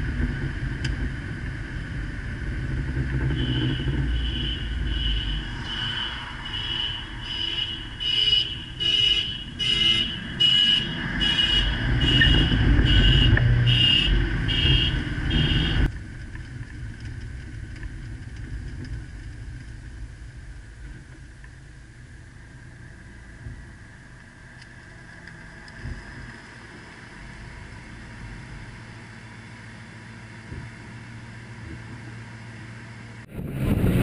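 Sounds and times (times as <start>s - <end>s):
low car rumble: 0.0s - 34.0s
road and wind noise: 0.0s - 34.0s.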